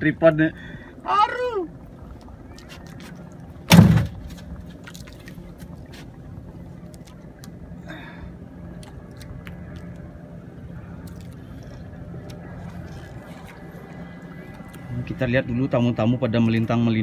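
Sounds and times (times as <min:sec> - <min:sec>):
boat engine idling: 0:00.0 - 0:17.0
water sounds: 0:00.0 - 0:17.0.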